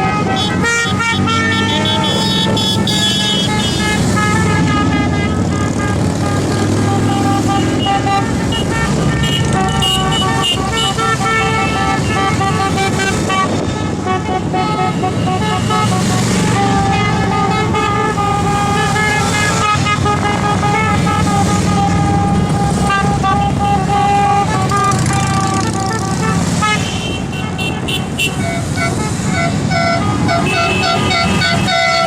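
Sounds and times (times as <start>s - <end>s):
horns tooting: 0.0s - 32.0s
motorcycle engines running: 0.0s - 32.0s.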